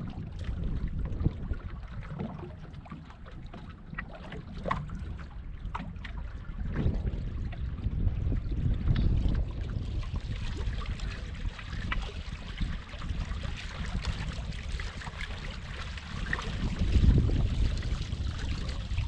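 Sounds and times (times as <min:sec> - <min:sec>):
water rushing along boat hull: 0:00.0 - 0:19.0
wind rumble on microphone: 0:00.0 - 0:19.0.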